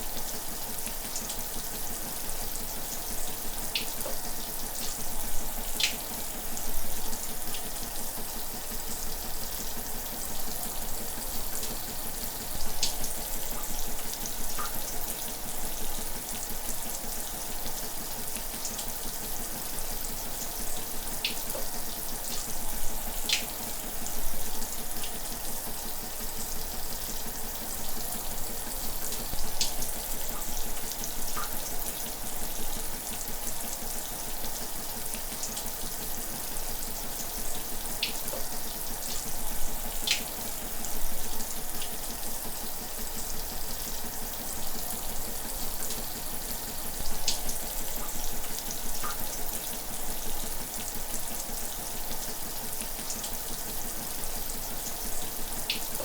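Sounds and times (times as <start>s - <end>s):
drip-like ticks: 0.1s - 56.0s.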